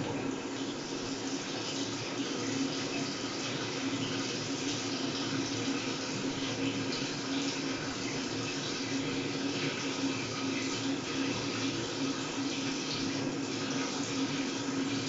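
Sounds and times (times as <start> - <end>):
washing machine hum: 0.0 - 15.0
water rushing in washing machine: 0.0 - 15.0.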